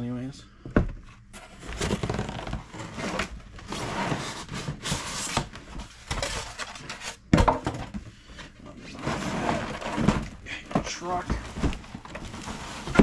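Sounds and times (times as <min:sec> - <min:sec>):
cardboard and paper rustling: 0:01.4 - 0:07.3, 0:08.3 - 0:13.0.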